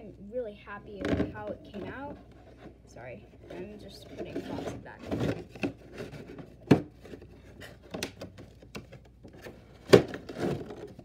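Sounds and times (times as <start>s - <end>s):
cardboard rustling: 1.3s - 11.0s.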